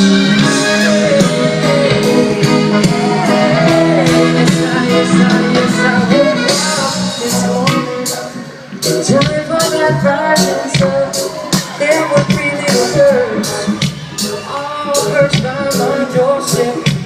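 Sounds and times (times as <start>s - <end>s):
live band with guitar and percussion: 0.0s - 17.0s.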